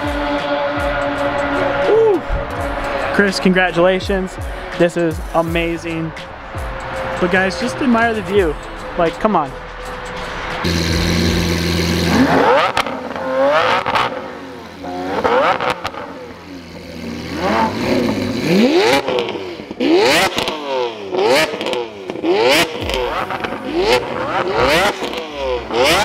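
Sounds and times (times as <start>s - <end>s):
car engine revving: 0.0s - 26.0s
exhaust cracks: 0.0s - 26.0s.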